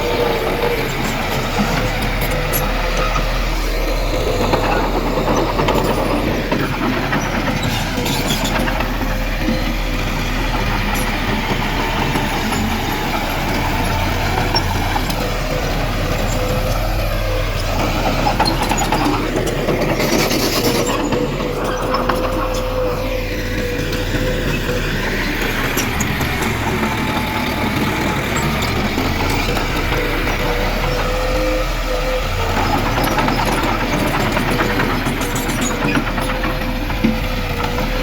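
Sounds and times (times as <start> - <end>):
heavy diesel machinery running: 0.0 - 38.0.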